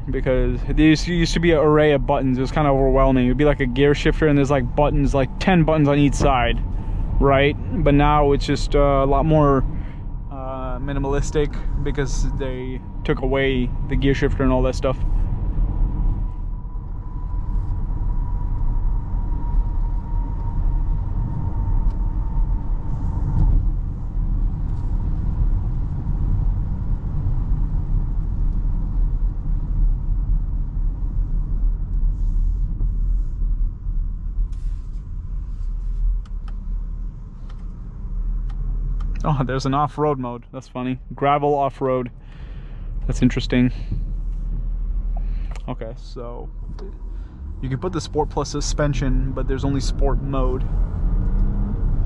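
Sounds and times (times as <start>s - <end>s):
car cabin road noise: 0.0s - 52.0s.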